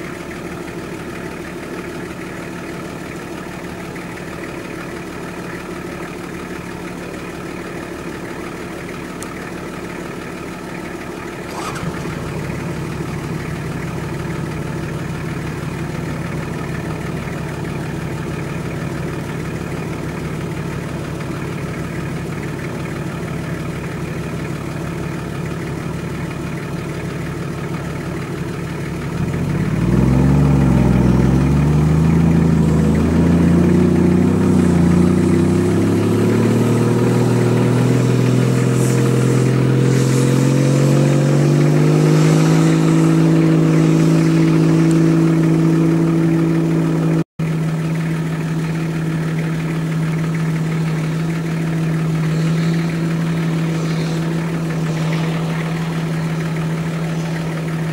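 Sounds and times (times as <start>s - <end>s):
off-road engine revving: 11.4s - 57.9s.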